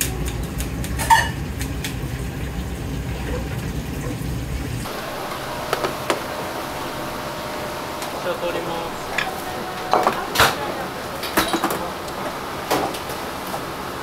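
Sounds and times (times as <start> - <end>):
kitchen low rush: 0.0 - 14.0.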